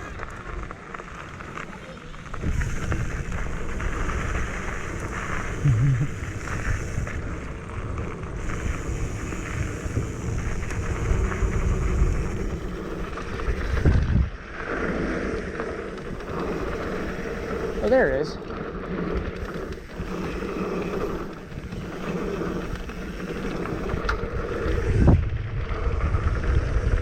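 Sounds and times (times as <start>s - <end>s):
tyres rumbling on dirt: 0.0s - 25.2s
bike rattling: 0.0s - 27.0s
wind buffeting microphone: 2.2s - 18.2s, 18.8s - 27.0s.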